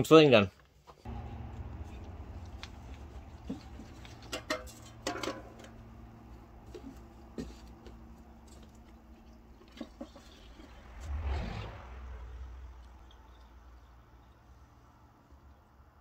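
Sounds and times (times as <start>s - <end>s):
low steady rumble: 1.1s - 16.0s.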